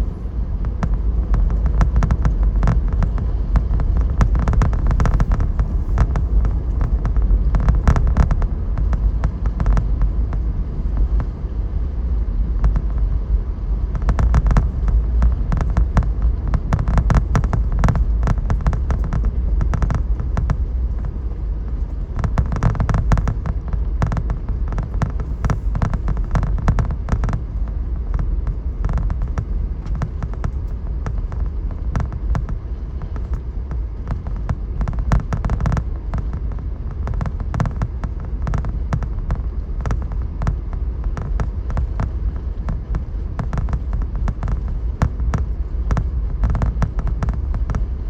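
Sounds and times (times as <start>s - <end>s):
heater blower fan: 0.0s - 48.0s
road rumble: 0.0s - 48.0s
rapid crackling clicks: 0.1s - 48.0s.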